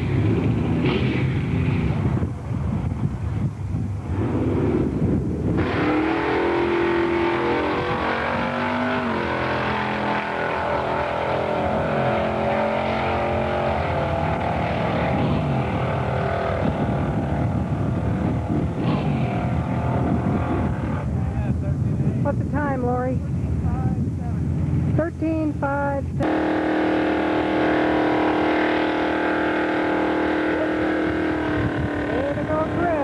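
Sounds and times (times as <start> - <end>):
car engine at full throttle: 0.0 - 25.1, 26.1 - 33.0.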